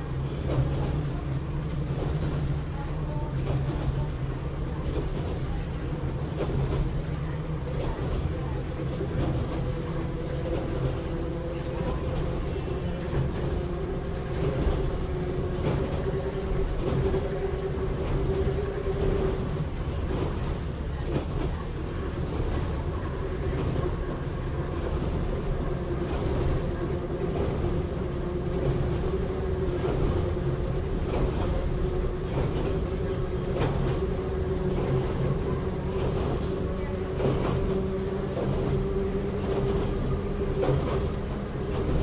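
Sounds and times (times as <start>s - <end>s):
train running gear rumble: 0.0s - 42.0s.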